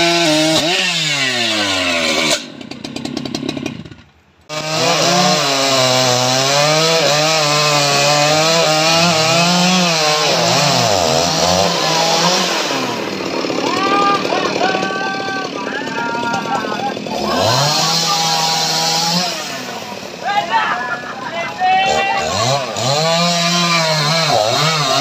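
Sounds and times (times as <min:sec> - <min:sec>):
second chainsaw running: 0:00.0 - 0:20.3, 0:21.0 - 0:25.0
chainsaw cutting log: 0:00.0 - 0:20.4, 0:21.0 - 0:25.0.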